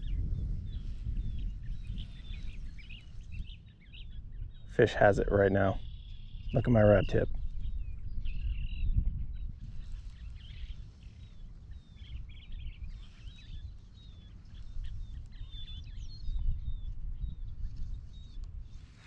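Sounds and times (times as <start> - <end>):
birds chirping and calling: 0.0 - 19.0
wind rumbling on microphone: 0.0 - 19.0.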